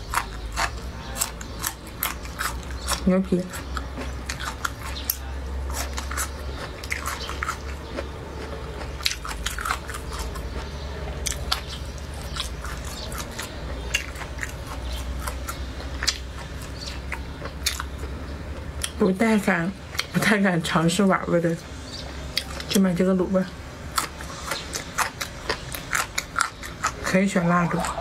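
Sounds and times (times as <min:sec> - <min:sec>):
chewing and crunching: 0:00.0 - 0:28.0
steady low hum: 0:00.0 - 0:28.0.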